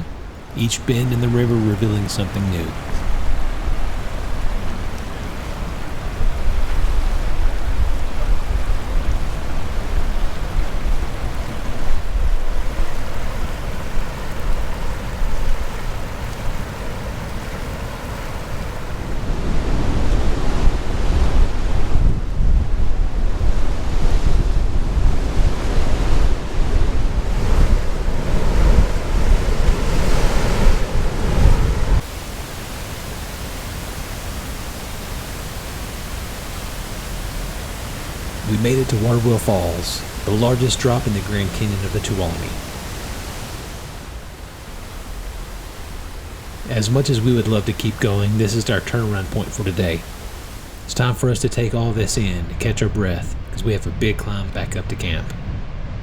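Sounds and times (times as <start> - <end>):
river whitewater roaring: 0.0 - 22.0, 24.8 - 55.3
wind buffeting microphone: 2.6 - 50.9.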